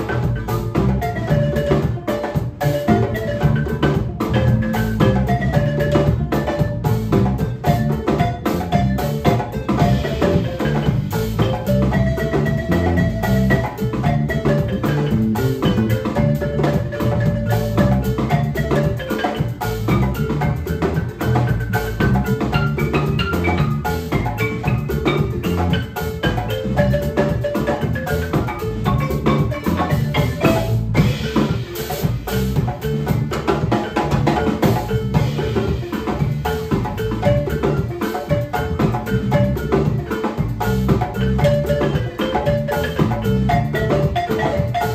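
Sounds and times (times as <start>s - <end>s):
bass guitar: 0.0s - 44.9s
djembe: 0.0s - 44.9s
drum kit: 0.0s - 44.9s
electric guitar: 0.0s - 44.9s
marimba struck with mallets: 0.0s - 44.9s.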